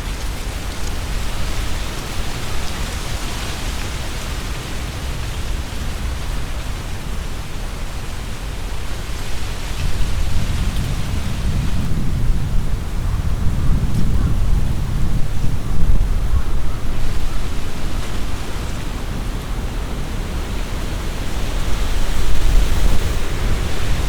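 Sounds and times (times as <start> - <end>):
wind buffeting microphone: 0.0 - 24.0
wind rustling tree leaves: 0.0 - 24.0.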